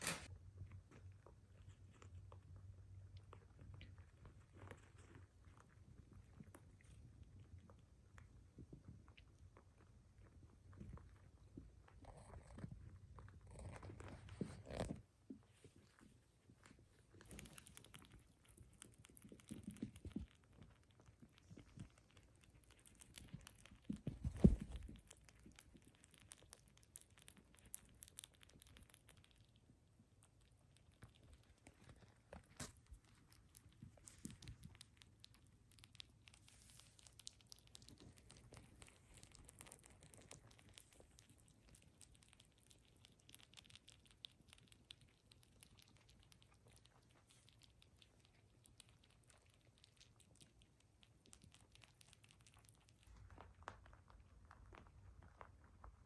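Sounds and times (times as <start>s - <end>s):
rabbits nibbling and chewing: 0.0s - 56.0s.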